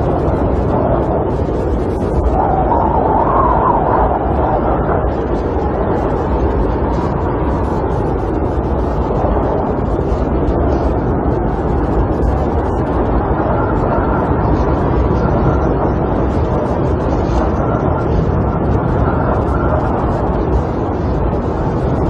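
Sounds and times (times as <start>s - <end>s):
wind rushing against camper: 0.0s - 22.0s.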